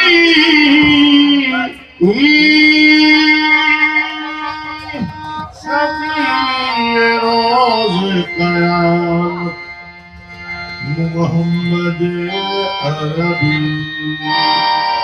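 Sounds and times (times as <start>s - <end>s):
harmonium: 0.0s - 15.0s.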